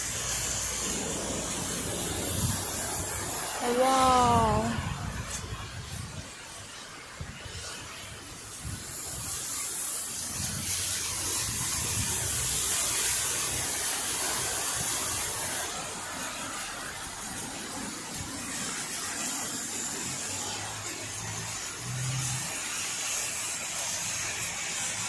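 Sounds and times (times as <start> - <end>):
tyre hiss on wet road: 0.0 - 25.0.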